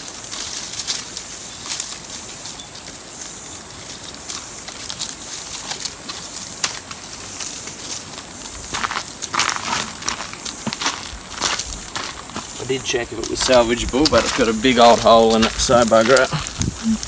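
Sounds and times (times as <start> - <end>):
dry sticks and net rustling: 0.0 - 17.0
steady high hiss: 0.0 - 17.0.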